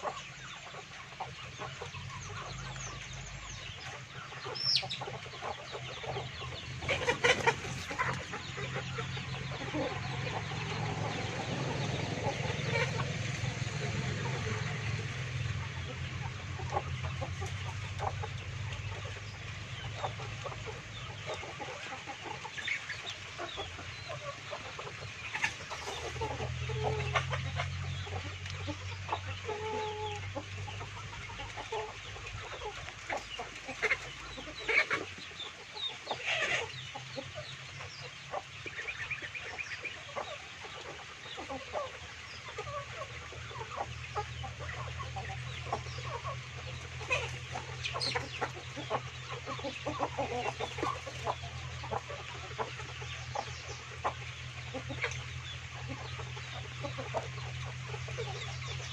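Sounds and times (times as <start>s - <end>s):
chickens clucking: 0.0s - 58.9s
chickens squawking: 0.0s - 58.9s.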